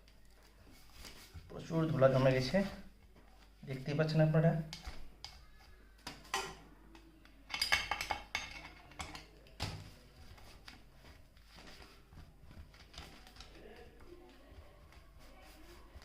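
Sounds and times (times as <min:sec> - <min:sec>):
faint handling sounds: 0:00.0 - 0:07.5, 0:08.5 - 0:16.0.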